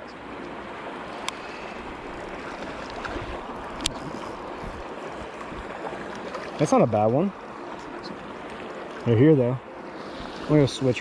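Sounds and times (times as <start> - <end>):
water rushing from spillway: 0.0 - 11.0.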